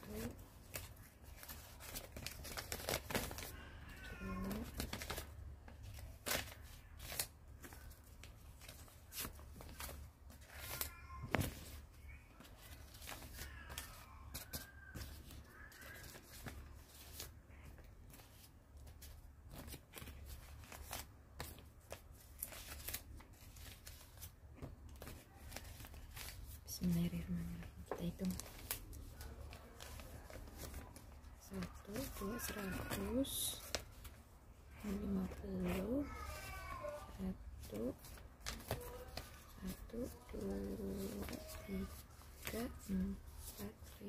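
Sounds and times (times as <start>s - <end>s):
banknotes rustling and crackling: 0.0s - 44.0s.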